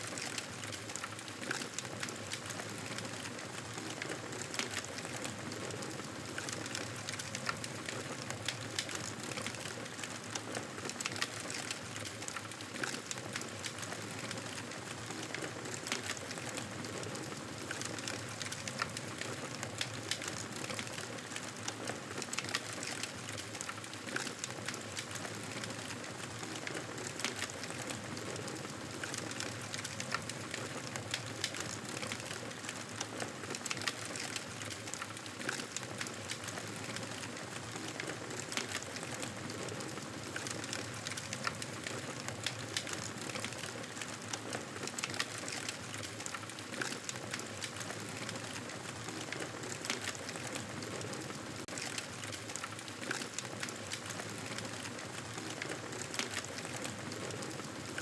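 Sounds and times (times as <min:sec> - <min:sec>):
campfire crackling and popping: 0:06.3 - 0:58.0.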